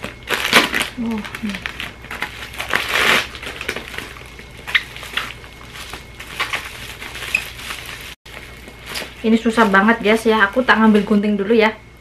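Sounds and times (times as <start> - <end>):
plastic mailer and bubble wrap crinkling: 0.0 - 11.3.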